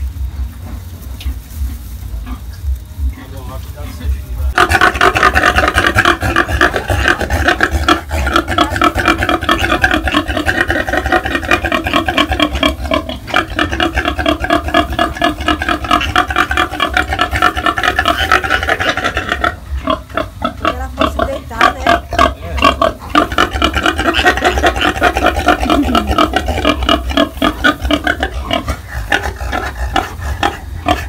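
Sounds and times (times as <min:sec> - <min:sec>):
sow grunting rapidly: 0:04.5 - 0:31.0.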